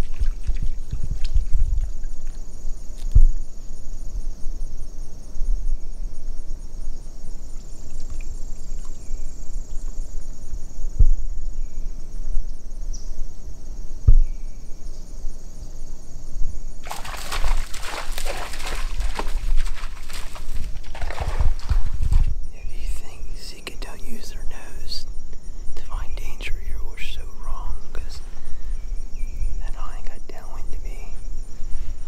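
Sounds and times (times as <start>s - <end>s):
insects chirring: 0.0s - 32.0s.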